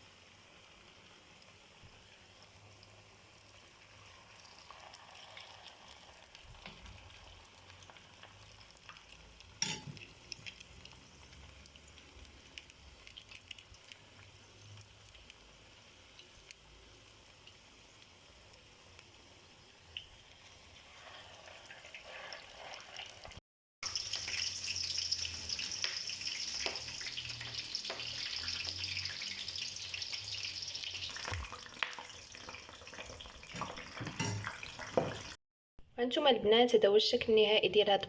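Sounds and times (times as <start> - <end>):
potatoes sizzling in hot oil: 0.0 - 35.4.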